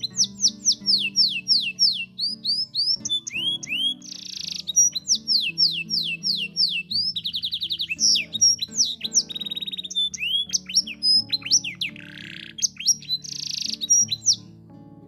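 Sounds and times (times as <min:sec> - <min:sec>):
canary singing: 0:00.0 - 0:14.6
background music: 0:00.0 - 0:15.0.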